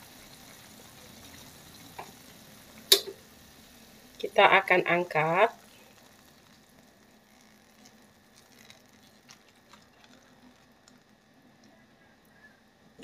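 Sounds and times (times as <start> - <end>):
wire strainer ticks and patters: 0.0 - 11.7.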